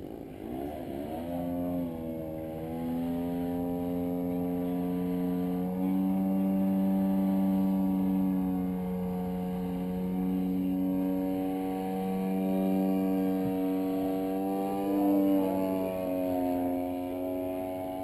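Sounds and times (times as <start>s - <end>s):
model aircraft engine droning: 0.0s - 18.0s.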